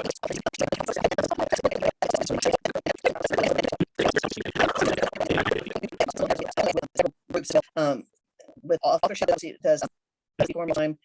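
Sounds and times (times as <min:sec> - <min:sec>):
garbled distorted voice: 0:00.0 - 0:11.0.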